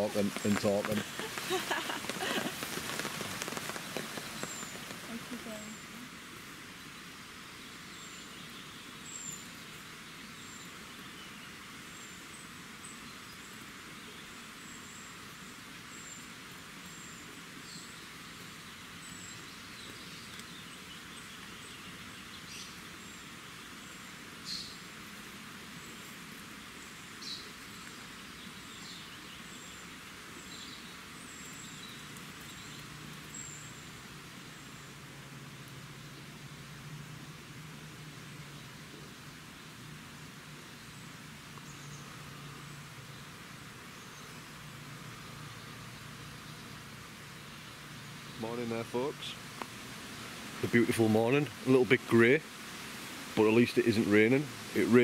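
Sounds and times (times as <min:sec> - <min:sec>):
faint steady hiss: 0:00.0 - 0:55.0
small birds chirping: 0:00.0 - 0:55.0.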